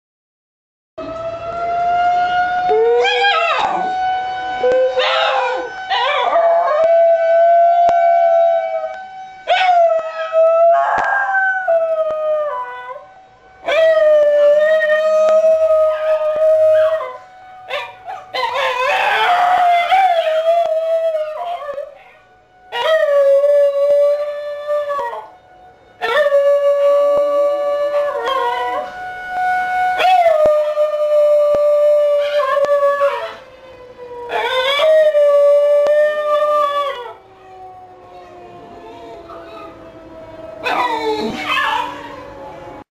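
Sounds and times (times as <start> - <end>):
tornado siren: 1.0 - 42.9
dog howling: 2.7 - 3.9, 4.6 - 13.0, 13.6 - 25.3, 26.0 - 29.0, 30.0 - 33.4, 34.2 - 42.4.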